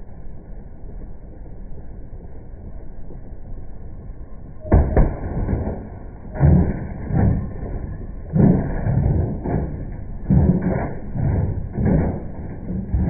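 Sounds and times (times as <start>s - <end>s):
rumbling: 0.0s - 13.0s.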